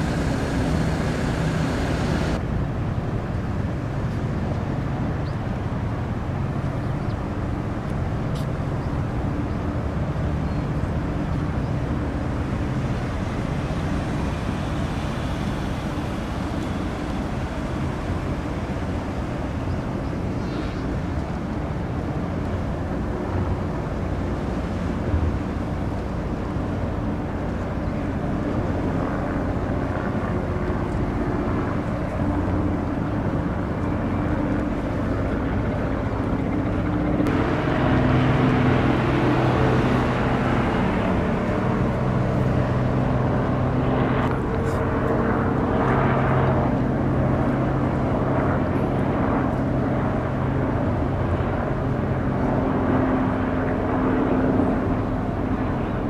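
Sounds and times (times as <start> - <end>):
rushing water wash: 0.0 - 36.3, 37.0 - 56.0
ship engine drone: 0.0 - 56.0.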